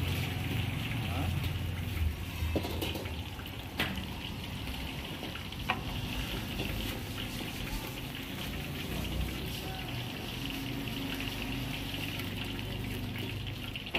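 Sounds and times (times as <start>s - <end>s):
food sizzling: 0.0s - 13.9s.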